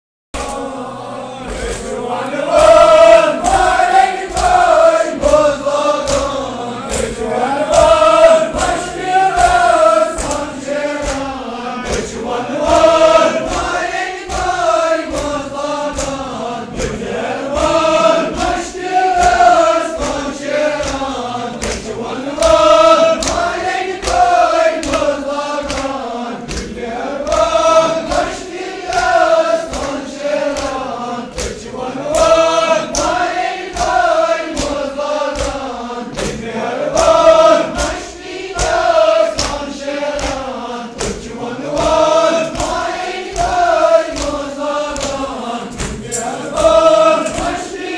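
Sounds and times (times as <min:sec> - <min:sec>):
men chanting a lament: 0:00.4 - 0:47.9.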